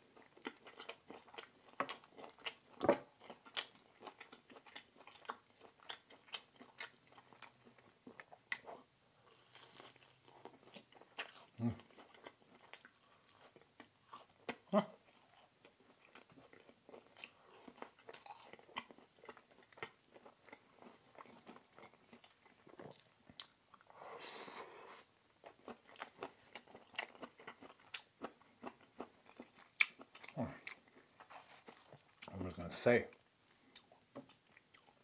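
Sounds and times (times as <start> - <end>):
person chewing food: 0.0 - 32.5, 33.5 - 35.0.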